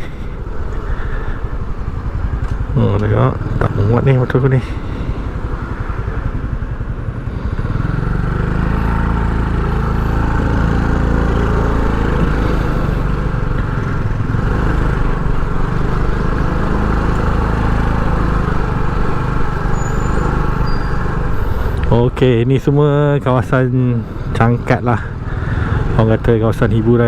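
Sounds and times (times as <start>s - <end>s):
motorcycle engine running: 0.0s - 23.2s
road and wind noise: 0.0s - 27.0s.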